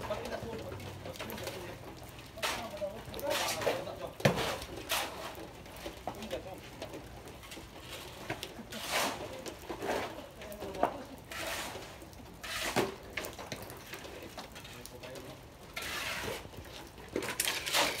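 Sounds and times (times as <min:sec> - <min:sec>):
shovels scraping concrete: 0:00.0 - 0:18.0.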